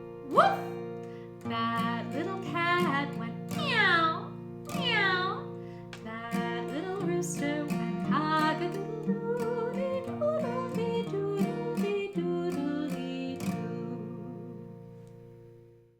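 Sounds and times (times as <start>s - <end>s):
acoustic guitar strumming: 0.0s - 15.9s
woman singing: 0.1s - 15.0s.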